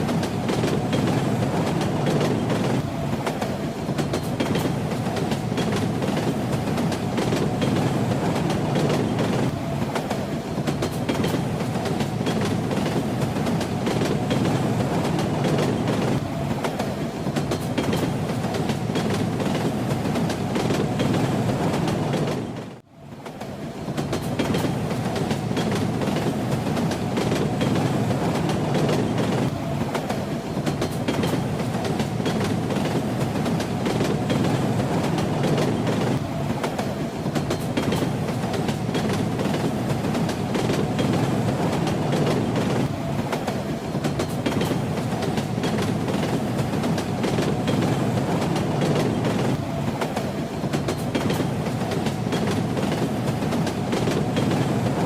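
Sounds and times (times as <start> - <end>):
train rumble: 0.0 - 55.0
train wheels clattering: 0.0 - 55.0.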